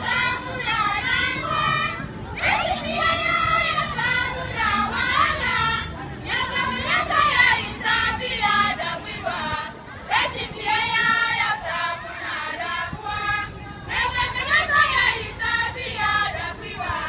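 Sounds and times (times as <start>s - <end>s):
female choir singing: 0.0s - 17.0s.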